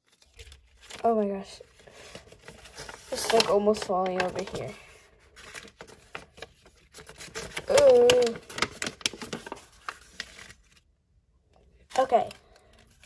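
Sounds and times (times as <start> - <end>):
paper rustling and crinkling: 0.0 - 10.9, 11.9 - 13.0.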